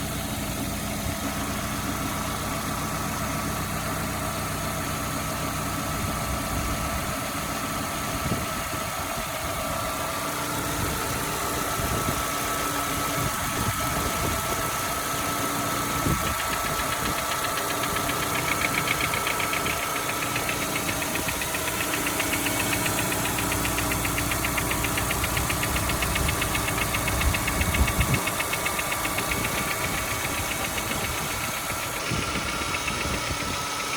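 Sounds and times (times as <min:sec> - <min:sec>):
car engine knocking: 0:00.0 - 0:33.9.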